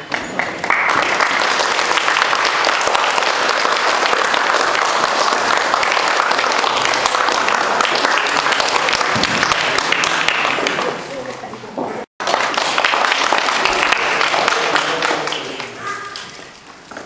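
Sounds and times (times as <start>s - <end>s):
group applauding: 0.0s - 11.4s, 12.2s - 17.0s.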